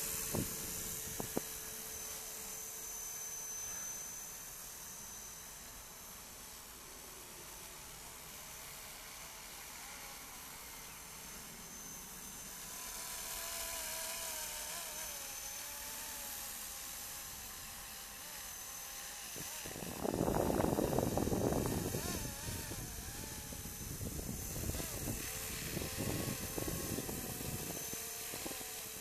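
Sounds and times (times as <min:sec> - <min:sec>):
rc helicopter motor whine: 0:00.0 - 0:29.0
rotor hiss: 0:00.0 - 0:29.0.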